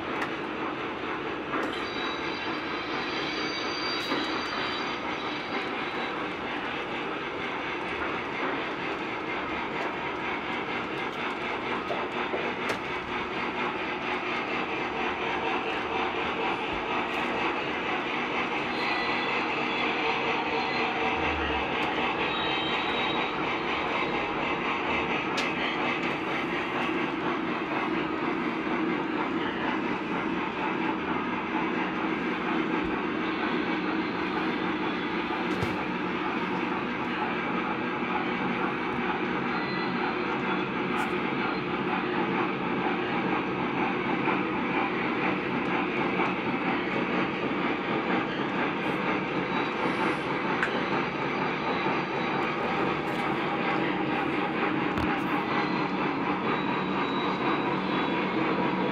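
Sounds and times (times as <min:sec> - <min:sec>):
model train wheels rumbling on rail: 0:00.0 - 0:58.9.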